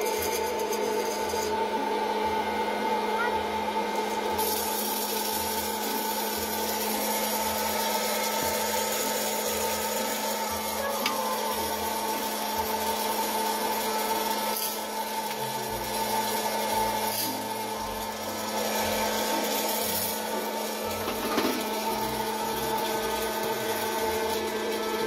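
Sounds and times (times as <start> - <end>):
popcorn popper fan humming: 0.0 - 25.0
popcorn kernels rattling: 4.0 - 25.0.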